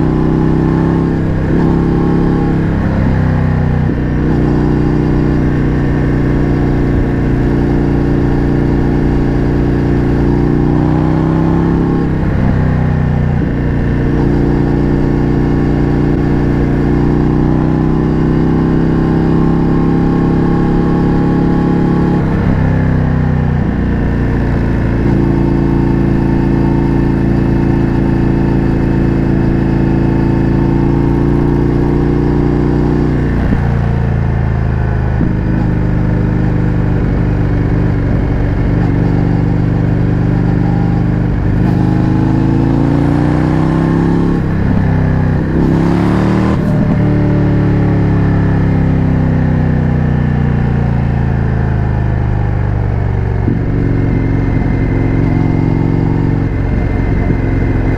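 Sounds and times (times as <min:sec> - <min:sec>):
motorcycle engine riding: 0:00.0 - 0:57.9.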